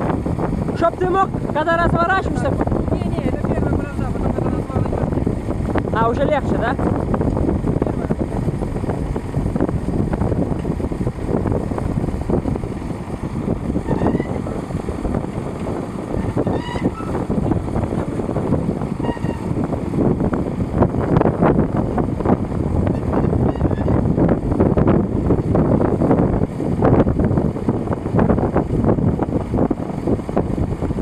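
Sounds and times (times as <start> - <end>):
tractor engine under load: 0.0 - 31.0
wind buffeting microphone: 0.0 - 31.0.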